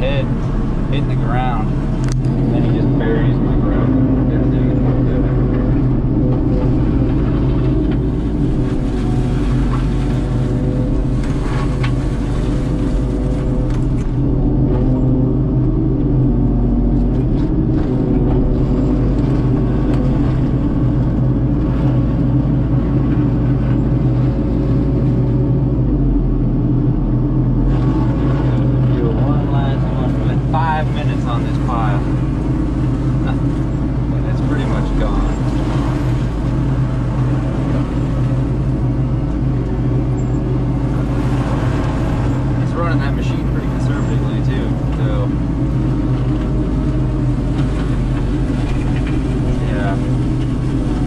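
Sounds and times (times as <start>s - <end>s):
excavator engine: 0.0s - 51.0s.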